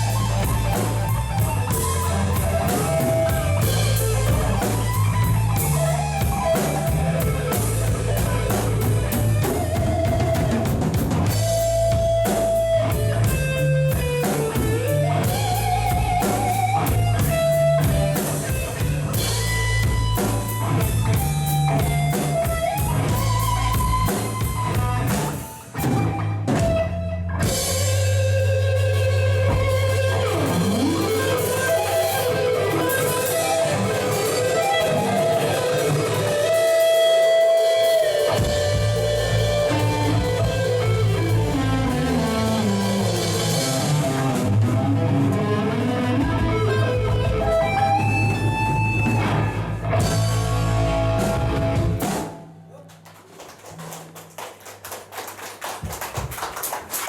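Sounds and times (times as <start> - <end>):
melodic electric guitar: 0.0 - 52.6
rock music: 0.0 - 52.7.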